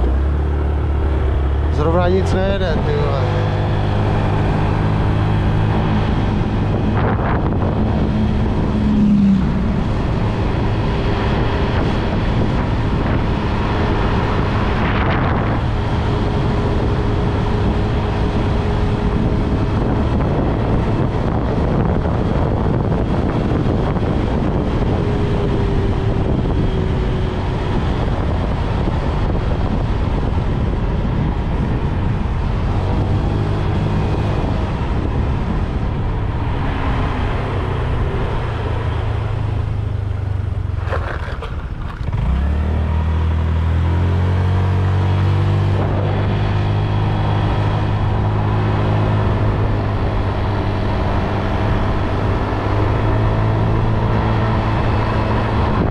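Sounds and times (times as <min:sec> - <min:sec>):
road noise: 0:00.0 - 0:55.9
wind rushing over microphone: 0:00.0 - 0:55.9.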